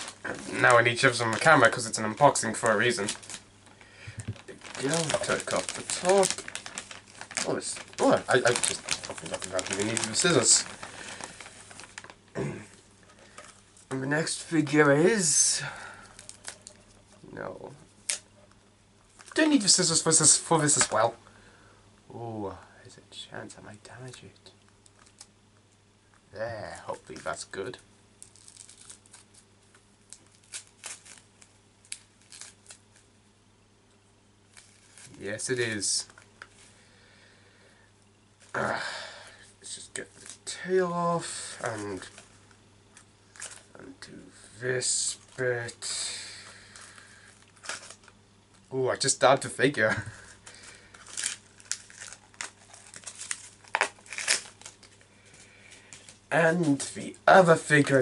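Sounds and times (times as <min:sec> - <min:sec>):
wrapping crinkling and rustling: 0:00.0 - 0:18.3, 0:19.0 - 0:21.2, 0:24.0 - 0:25.4, 0:26.1 - 0:33.1, 0:34.4 - 0:36.8, 0:39.4 - 0:58.0.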